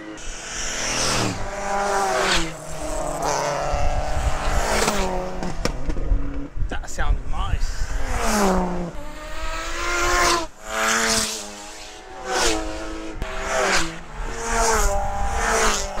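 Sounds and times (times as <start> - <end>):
race cars passing by: 0.0 - 6.6, 7.3 - 16.0.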